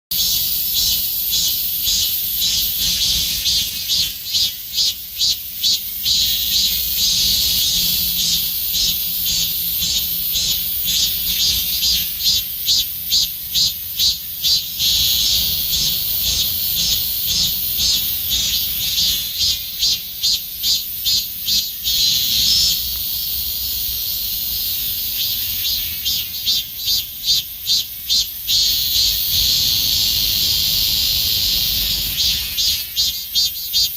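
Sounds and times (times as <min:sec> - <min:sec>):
cicada singing: 0:00.1 - 0:33.9.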